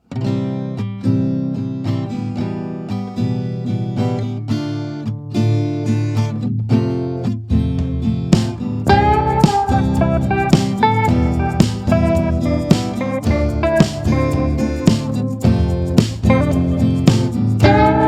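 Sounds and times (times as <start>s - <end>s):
plucked acoustic guitar: 0.0s - 18.0s.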